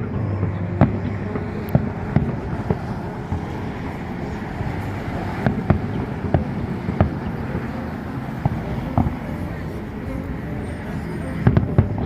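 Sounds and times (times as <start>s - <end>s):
steady low rumble: 0.0s - 12.0s
distant firework bangs: 0.6s - 10.1s, 11.2s - 12.0s.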